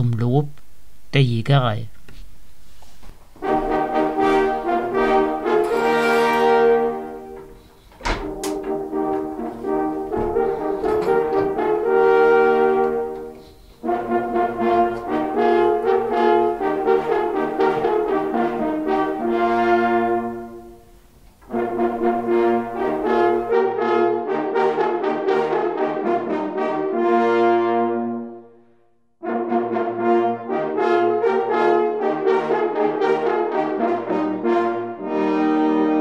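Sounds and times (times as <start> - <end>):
brass horns playing chords: 0.0 - 36.0.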